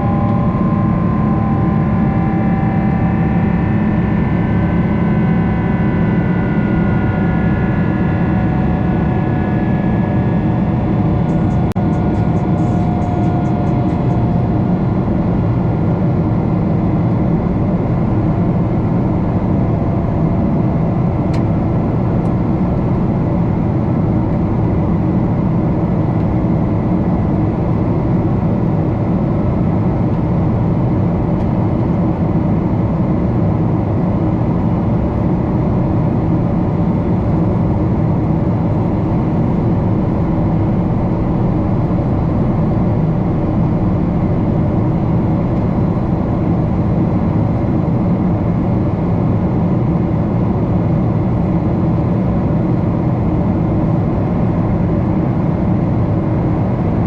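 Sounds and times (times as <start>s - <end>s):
jet engine and airflow noise: 0.0s - 57.0s.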